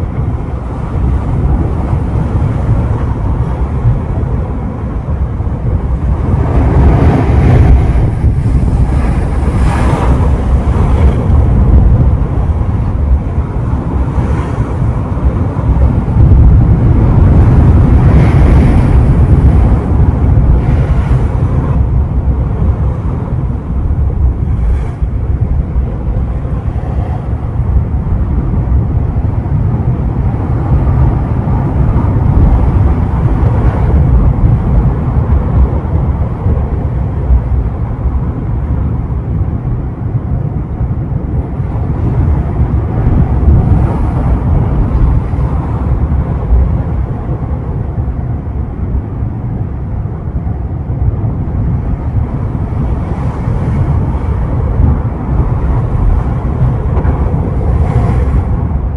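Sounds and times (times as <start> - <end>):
ocean surf breaking: 0.0 - 58.9
wind buffeting microphone: 0.0 - 58.9.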